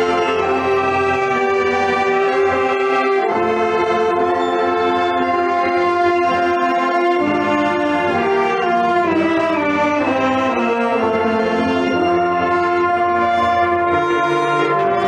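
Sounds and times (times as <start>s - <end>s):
brass section playing chords: 0.0s - 15.0s.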